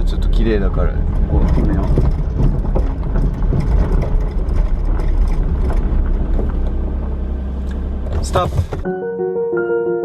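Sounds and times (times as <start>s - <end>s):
engine and road rumble: 0.0s - 8.9s.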